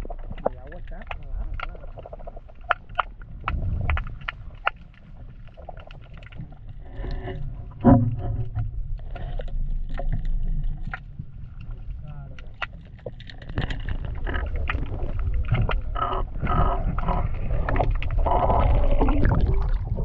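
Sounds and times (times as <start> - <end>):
muffled underwater water rumble: 0.0 - 20.0
sharp underwater clicks: 0.0 - 20.0.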